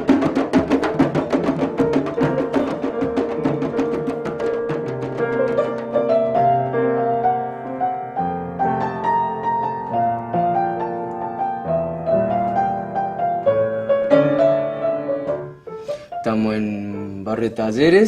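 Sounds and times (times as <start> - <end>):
slow piano melody: 0.8 - 18.0.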